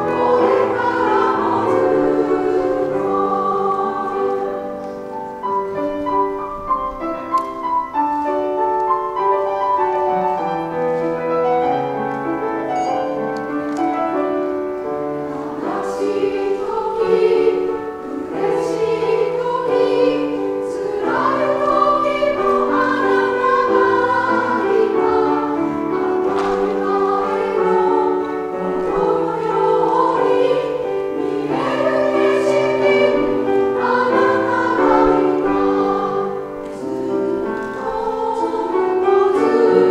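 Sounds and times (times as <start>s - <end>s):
women's choir singing: 0.0s - 8.0s, 13.9s - 39.9s
piano: 0.0s - 39.9s.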